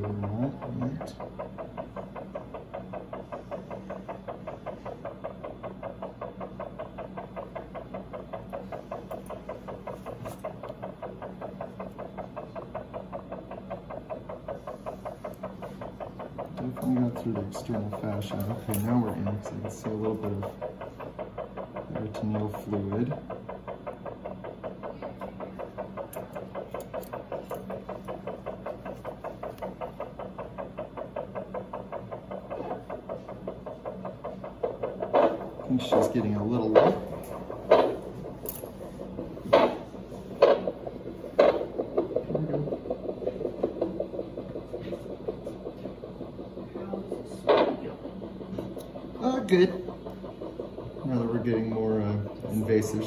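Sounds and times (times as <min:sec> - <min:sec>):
heart monitor beeping pulse: 0:00.0 - 0:51.5
steady low hum: 0:00.0 - 0:53.0.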